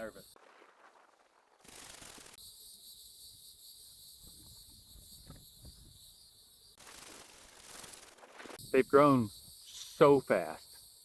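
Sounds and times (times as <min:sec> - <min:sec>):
high-pitched insect chorus: 0:01.6 - 0:11.0.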